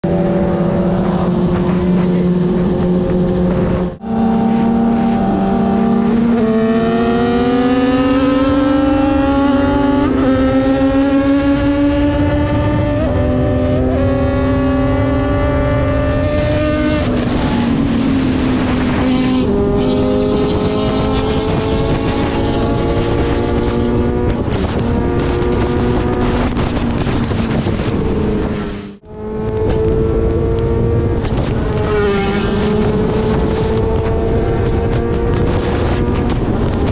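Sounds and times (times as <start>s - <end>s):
motorcycle engine accelerating: 0.0s - 36.9s
wind noise: 0.0s - 36.9s.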